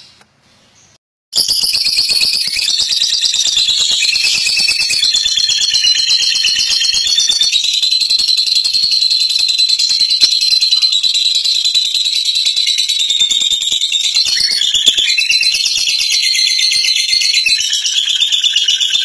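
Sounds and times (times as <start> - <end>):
lovebird chattering: 2.3 - 19.0.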